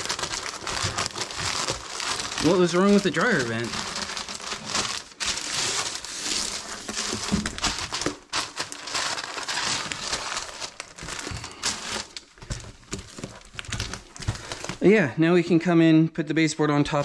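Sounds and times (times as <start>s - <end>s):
masking material crinkling: 0.0s - 14.9s.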